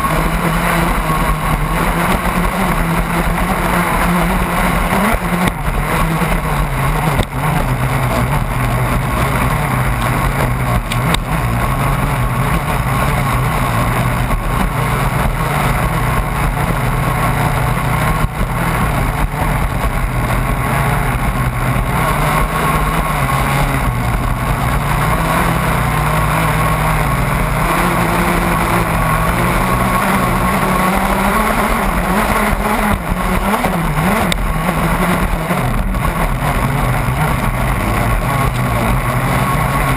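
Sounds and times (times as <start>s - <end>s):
boat motor running at speed: 0.0s - 39.9s
wind: 0.0s - 39.9s.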